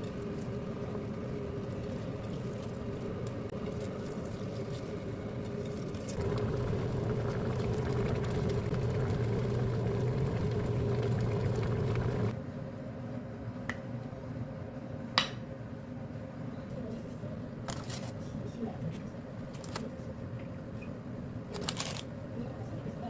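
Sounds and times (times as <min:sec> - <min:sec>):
mechanical hum with low drone: 0:00.0 - 0:23.0.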